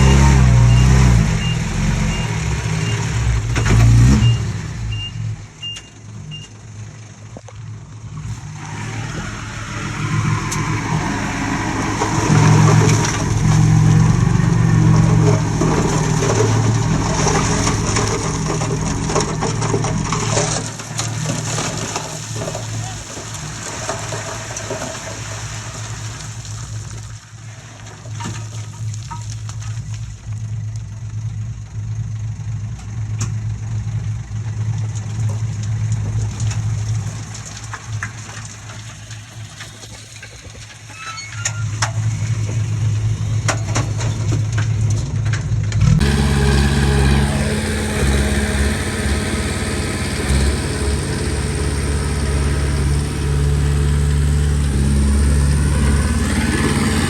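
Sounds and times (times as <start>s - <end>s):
bulldozer diesel engine running: 0.0s - 27.6s, 28.6s - 57.0s.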